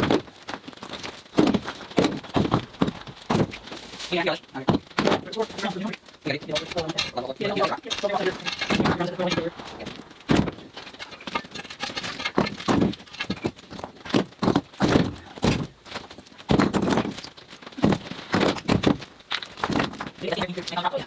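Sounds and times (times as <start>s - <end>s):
concrete chunks clunking on concrete: 0.0s - 21.0s
rubble scraping: 0.0s - 21.0s.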